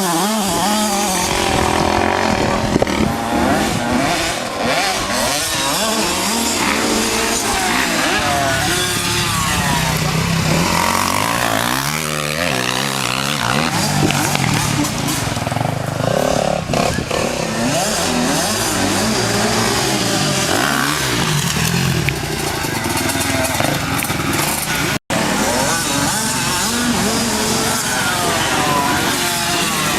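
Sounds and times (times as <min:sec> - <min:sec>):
motocross bike engines revving: 0:00.0 - 0:29.9.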